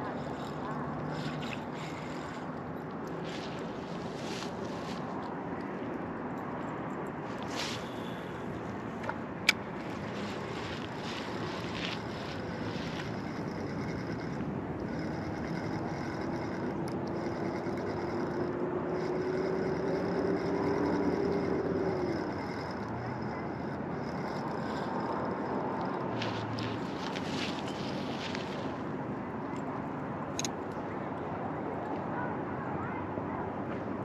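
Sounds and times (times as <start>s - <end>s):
distant vehicle engine: 0.0s - 32.2s.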